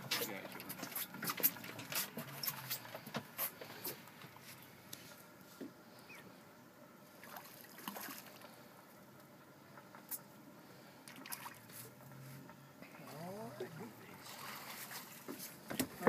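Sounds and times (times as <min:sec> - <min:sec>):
water trickling and lapping: 0:00.0 - 0:16.0.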